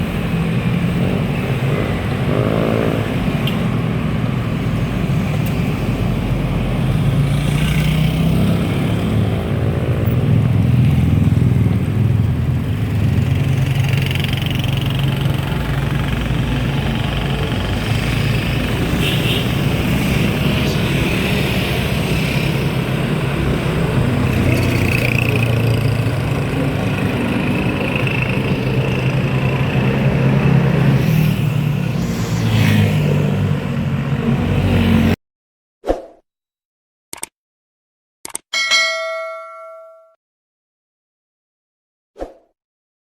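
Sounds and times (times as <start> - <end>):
road and wind noise: 0.0 - 35.2.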